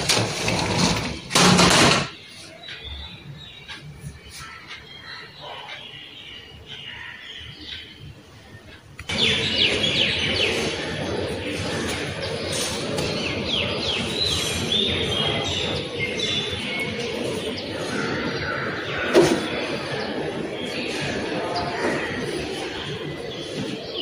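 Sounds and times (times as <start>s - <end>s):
outdoor background noise: 0.0s - 24.0s
small birds chirping: 2.1s - 24.0s.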